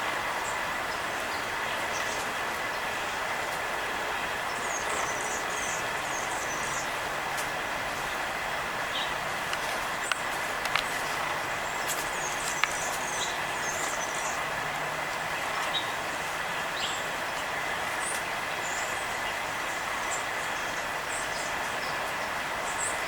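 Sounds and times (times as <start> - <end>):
background traffic: 0.0 - 23.0
songbirds chipping: 0.0 - 23.0.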